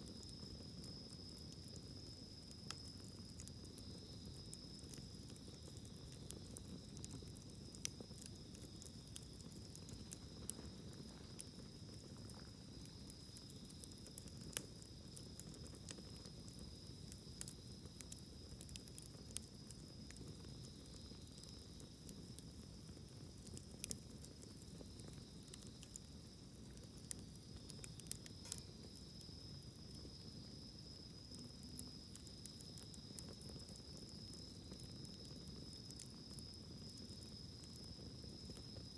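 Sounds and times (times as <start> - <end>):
campfire crackling and popping: 0.0 - 38.9
insect trill: 0.0 - 38.9.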